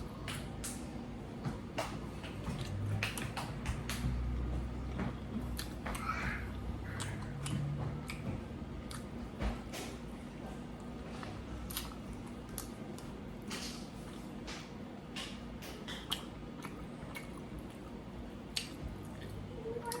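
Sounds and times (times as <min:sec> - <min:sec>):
person chewing food: 0:01.6 - 0:20.0.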